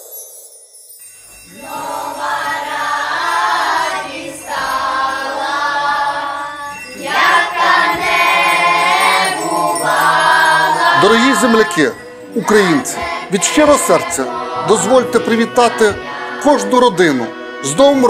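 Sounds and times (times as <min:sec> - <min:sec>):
children's choir singing: 0:01.5 - 0:18.0.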